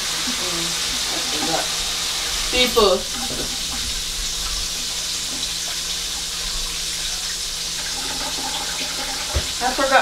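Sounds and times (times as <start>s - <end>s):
chicken frying in oil: 0.0s - 10.0s
tap water running into sink: 0.0s - 10.0s.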